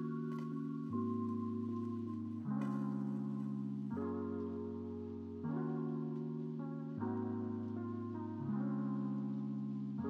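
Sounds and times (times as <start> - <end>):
instrumental music of held chords: 0.0 - 10.0.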